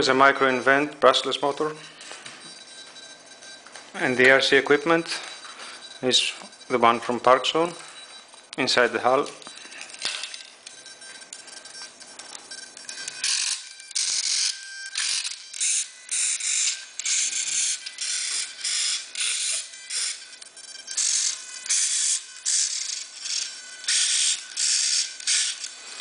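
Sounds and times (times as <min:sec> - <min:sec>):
servos whirring: 0:02.6 - 0:26.0.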